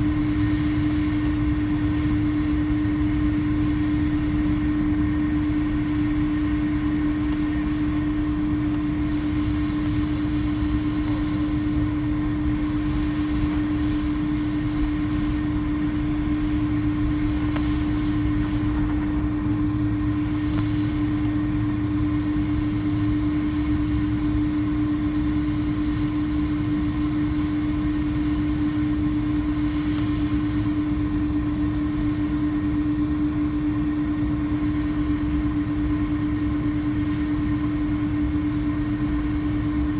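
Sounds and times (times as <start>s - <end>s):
jet engines humming: 0.0s - 39.9s.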